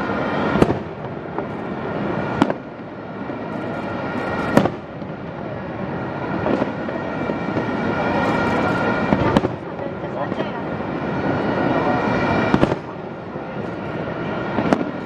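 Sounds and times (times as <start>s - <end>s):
firework crackling: 0.0s - 15.0s.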